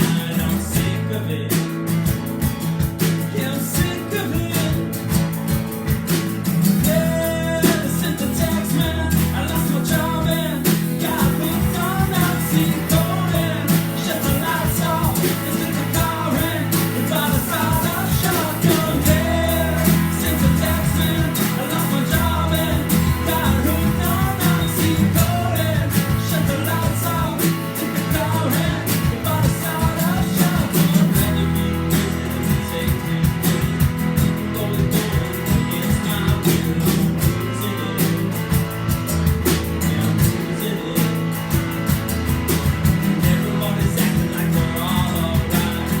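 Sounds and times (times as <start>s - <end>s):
person singing: 0.0s - 1.8s, 3.2s - 5.3s, 6.8s - 38.7s, 39.5s - 41.7s, 42.9s - 46.0s
strummed guitars: 0.0s - 46.0s
sustained bass notes: 0.0s - 46.0s.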